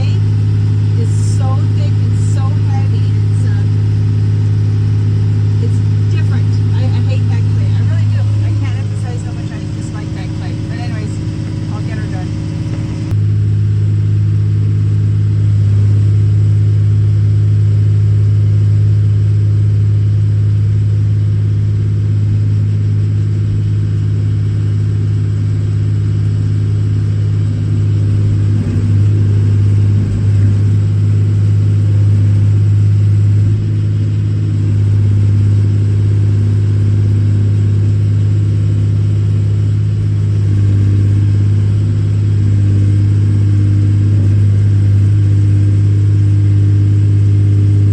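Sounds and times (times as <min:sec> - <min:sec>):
excavator diesel engine running: 0:00.0 - 0:13.2, 0:22.5 - 0:47.9.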